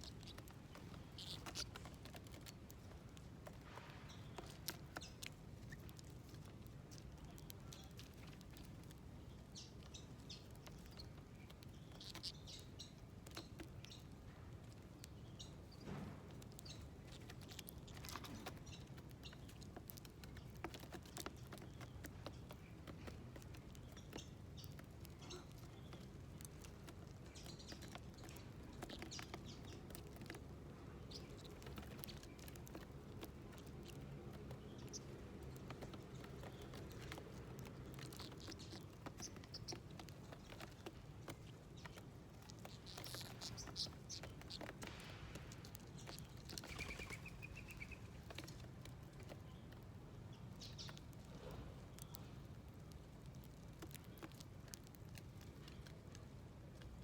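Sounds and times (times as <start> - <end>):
small birds chirping: 0.0 - 57.0
light clicks and taps: 0.1 - 57.0.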